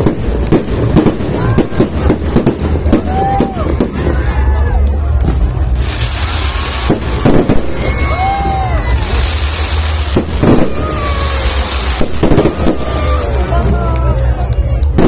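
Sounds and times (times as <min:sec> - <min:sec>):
firework bangs: 0:00.0 - 0:14.1, 0:14.8 - 0:15.0
fireworks hissing crackle: 0:00.0 - 0:15.0.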